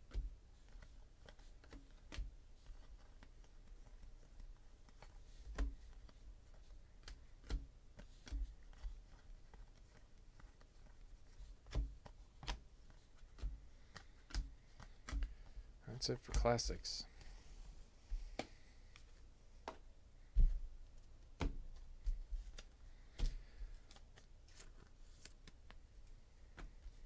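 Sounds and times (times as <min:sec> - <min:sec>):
cards flicking and tapping: 0:00.0 - 0:17.3, 0:18.1 - 0:27.0.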